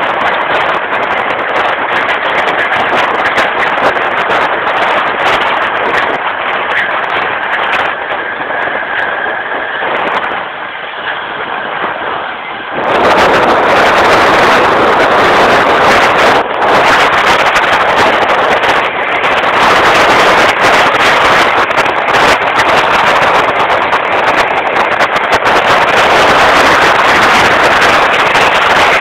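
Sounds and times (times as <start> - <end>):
train running rumble: 0.0 - 29.0
wheels clicking and rattling: 0.0 - 29.0.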